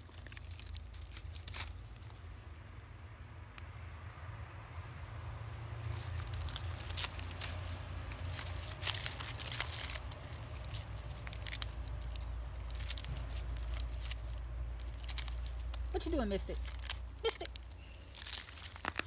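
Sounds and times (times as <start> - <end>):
dog chewing dry sticks: 0.0 - 2.4, 5.5 - 19.0.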